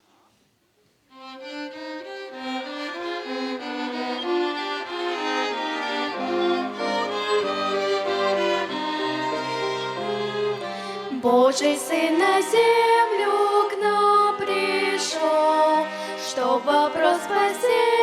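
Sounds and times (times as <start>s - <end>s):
violin melody: 1.1s - 18.0s.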